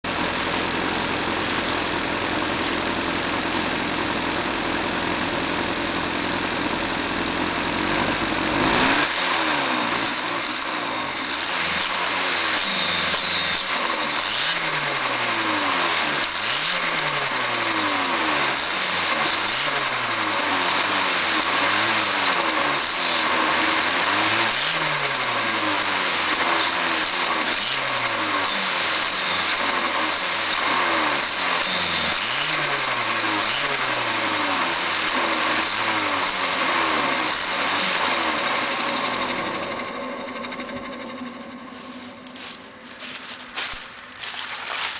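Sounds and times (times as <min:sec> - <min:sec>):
car engine idling and revving: 0:00.0 - 0:44.9.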